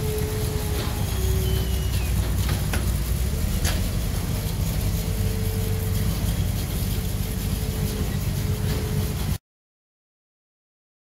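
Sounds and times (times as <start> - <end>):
truck engine idling: 0.0 - 9.4.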